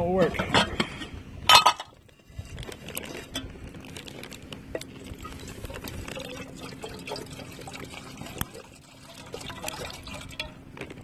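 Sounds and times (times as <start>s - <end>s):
wood fire crackling: 1.9s - 11.0s.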